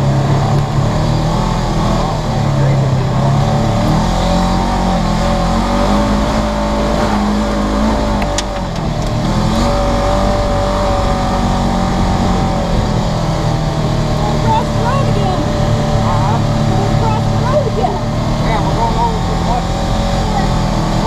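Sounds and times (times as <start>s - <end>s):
engine running under throttle: 0.0s - 21.0s.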